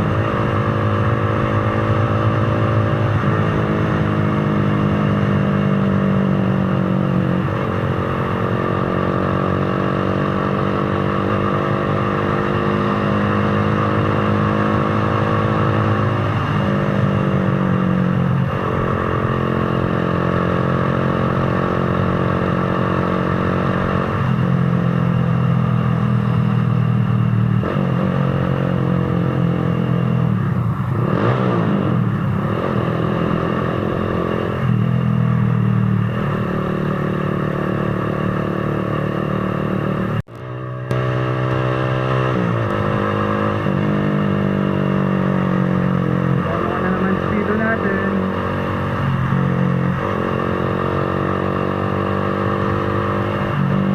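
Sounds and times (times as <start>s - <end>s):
motorcycle engine shifting gears: 0.0s - 53.9s
wind and road noise: 0.0s - 53.9s.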